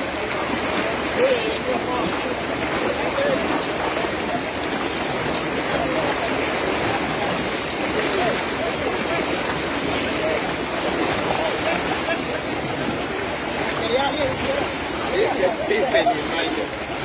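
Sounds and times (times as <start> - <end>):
faint voices: 0.0 - 17.0
rushing floodwater current: 0.0 - 17.0.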